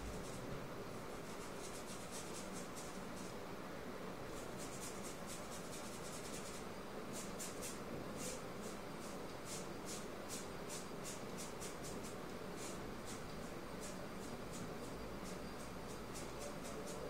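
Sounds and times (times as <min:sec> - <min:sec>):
scratchy paintbrush strokes: 0:01.2 - 0:03.4, 0:04.3 - 0:17.0.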